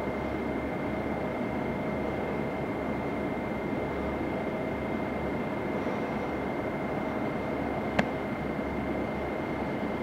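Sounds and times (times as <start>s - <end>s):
fire engine rumbling: 0.0s - 10.0s.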